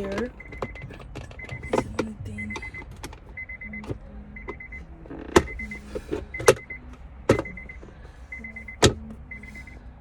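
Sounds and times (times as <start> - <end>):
high electronic beeps: 0.0 - 9.8.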